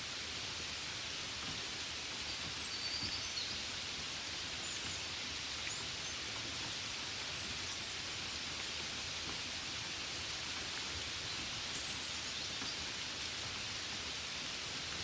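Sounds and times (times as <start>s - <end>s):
gentle rain falling: 0.0s - 15.0s.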